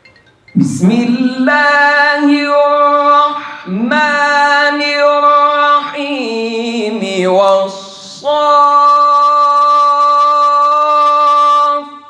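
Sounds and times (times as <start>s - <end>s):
man reciting melodically: 0.5s - 12.0s.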